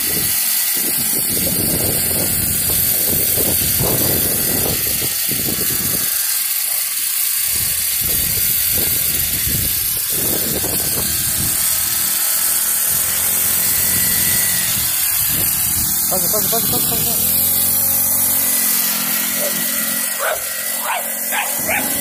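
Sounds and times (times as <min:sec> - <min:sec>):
mini dirt bike engine buzzing: 0:00.0 - 0:22.0.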